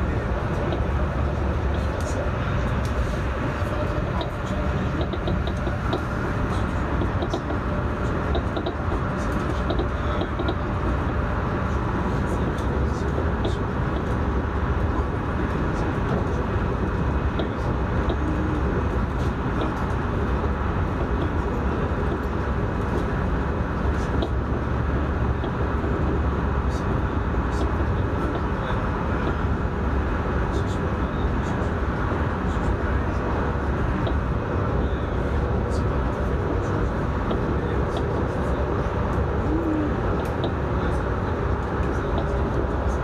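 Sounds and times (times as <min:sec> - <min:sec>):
train rumbling on board: 0:00.0 - 0:43.0.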